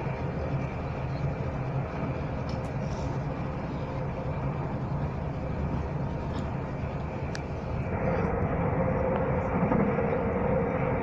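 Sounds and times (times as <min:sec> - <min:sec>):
steady hum: 0:00.0 - 0:11.0
train wheels rumbling on rail: 0:00.0 - 0:11.0.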